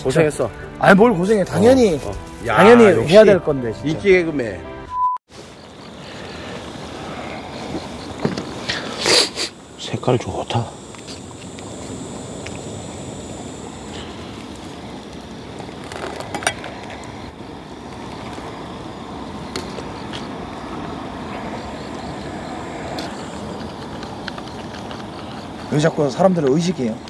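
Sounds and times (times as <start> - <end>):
steady rushing background noise: 5.3 - 27.0.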